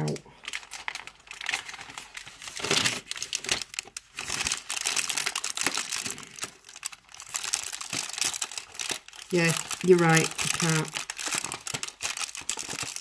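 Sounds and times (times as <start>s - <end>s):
cardboard packaging crinkling: 0.0s - 13.0s.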